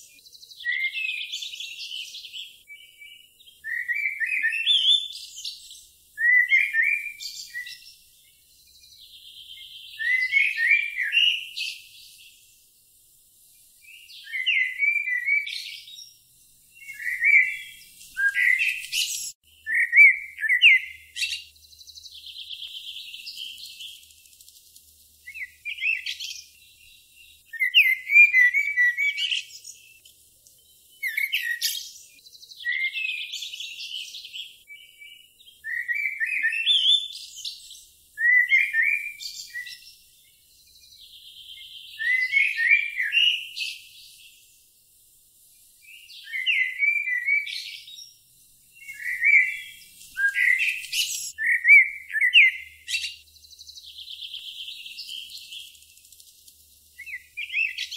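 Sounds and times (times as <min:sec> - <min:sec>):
songbird chirping and whistling: 0:00.0 - 0:12.5, 0:13.5 - 0:24.5, 0:25.2 - 0:44.4, 0:45.6 - 0:56.2, 0:56.8 - 0:57.9.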